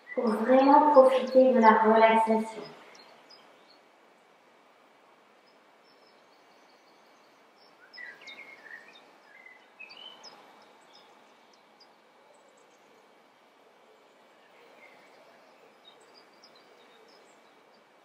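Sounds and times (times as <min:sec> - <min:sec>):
faint bird chirping: 0:00.0 - 0:18.0.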